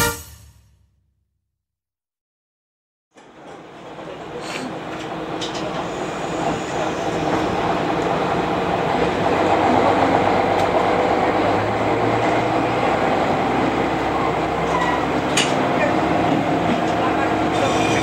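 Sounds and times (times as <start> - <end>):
diesel railcar engine rumbling: 3.2 - 18.0.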